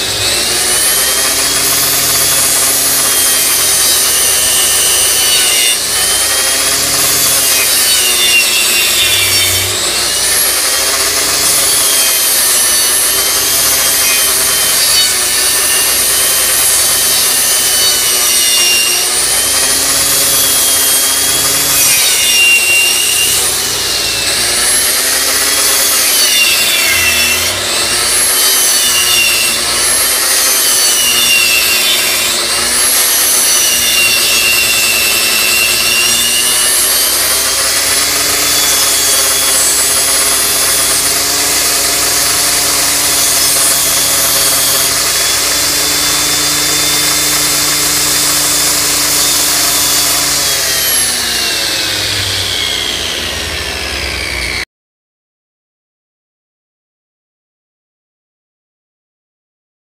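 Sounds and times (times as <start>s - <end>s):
grinder rasping into wood: 0.0s - 54.6s
angle grinder whining: 0.0s - 54.7s.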